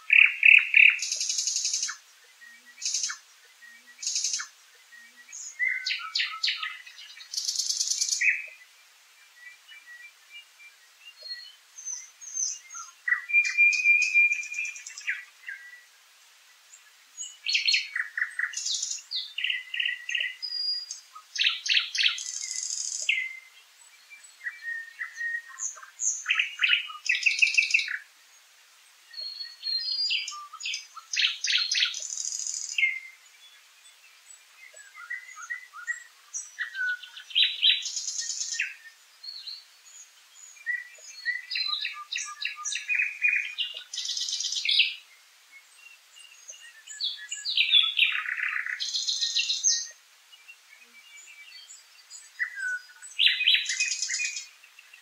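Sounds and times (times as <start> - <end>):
songbird whistling and trilling: 0.0 - 8.7, 9.3 - 15.9, 17.2 - 28.1, 29.1 - 33.6, 34.6 - 45.1, 46.1 - 50.0, 50.8 - 55.0.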